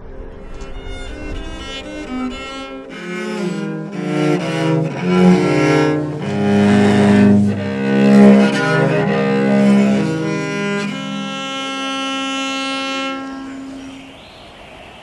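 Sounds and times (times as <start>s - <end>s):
viola bowed notes: 0.0s - 14.1s.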